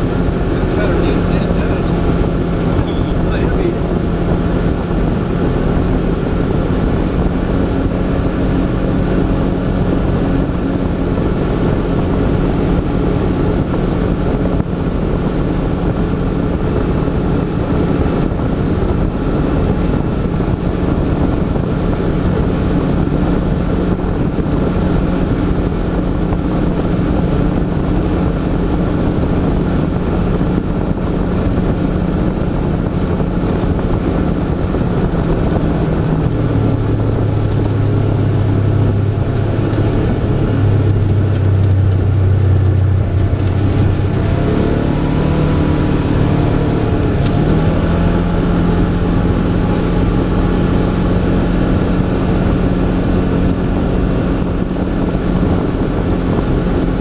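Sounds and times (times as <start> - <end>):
off-road vehicle engine droning: 0.0 - 57.0.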